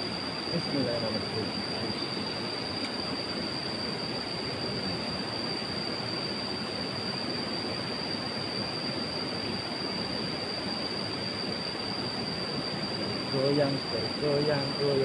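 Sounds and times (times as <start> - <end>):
steady high-pitched tone: 0.0 - 15.0.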